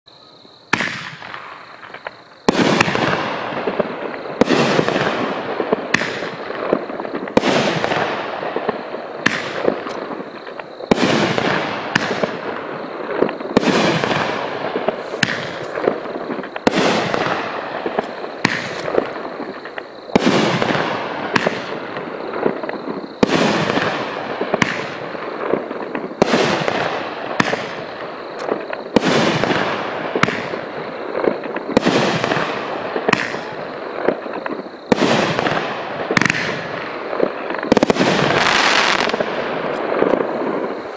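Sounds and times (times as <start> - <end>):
firework bangs: 0.7 - 40.9
firework crackling and fizzing: 0.8 - 40.9.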